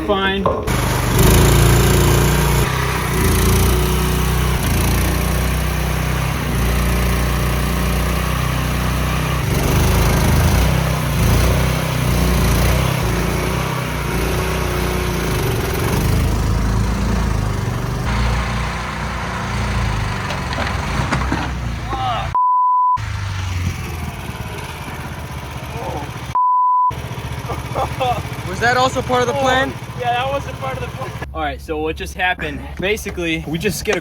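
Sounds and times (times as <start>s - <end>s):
small engine running hard: 0.4s - 22.4s, 23.0s - 31.3s.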